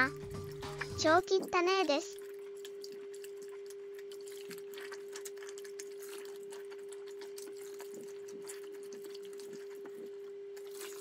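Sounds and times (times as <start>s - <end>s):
steady hum: 0.0s - 11.0s
soapy water sloshing and splashing: 0.7s - 11.0s.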